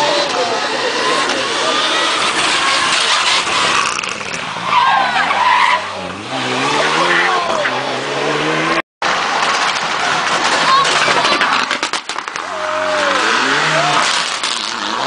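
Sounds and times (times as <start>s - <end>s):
rally car engine revving: 0.0s - 15.0s
tyres skidding: 0.0s - 15.0s.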